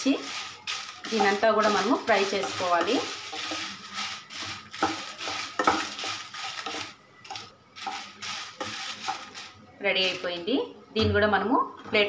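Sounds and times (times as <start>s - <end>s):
spices scraping in a frying pan: 0.0s - 10.7s.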